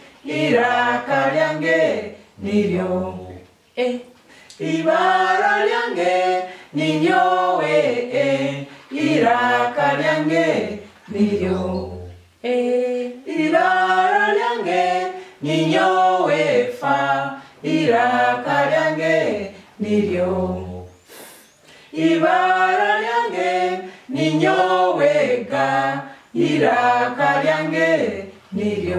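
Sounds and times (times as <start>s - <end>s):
group singing unaccompanied: 0.0s - 28.9s.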